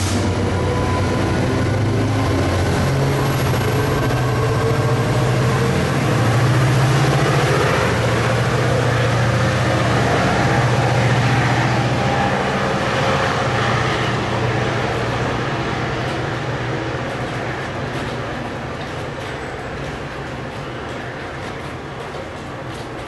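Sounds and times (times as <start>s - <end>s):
diesel locomotive engine humming: 0.0s - 23.0s
rail and train noise: 0.0s - 23.0s.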